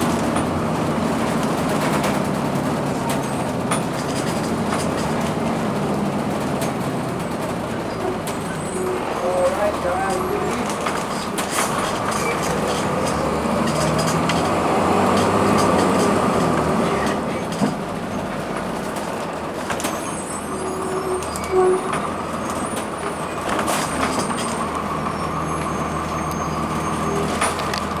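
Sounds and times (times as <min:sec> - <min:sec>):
rattles and clicks: 0:00.0 - 0:20.1, 0:21.2 - 0:25.7, 0:27.1 - 0:28.0
diesel bus engine running: 0:00.0 - 0:28.0.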